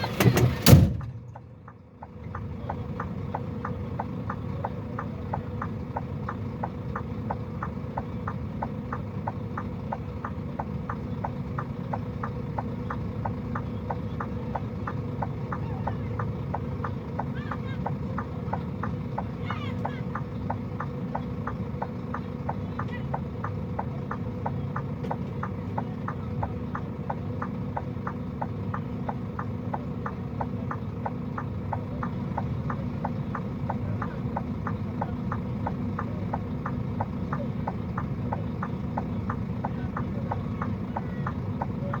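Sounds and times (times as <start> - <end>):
car engine idling: 0.0 - 42.0
flasher relay ticking: 0.0 - 42.0.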